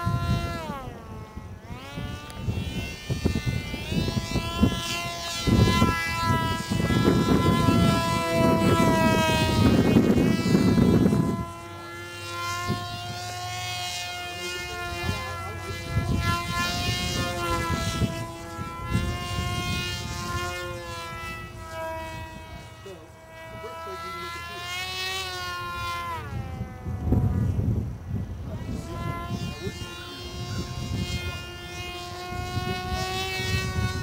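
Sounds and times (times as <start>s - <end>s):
electric motor and propeller whine: 0.0s - 34.0s
wind buffeting microphone: 0.0s - 34.0s.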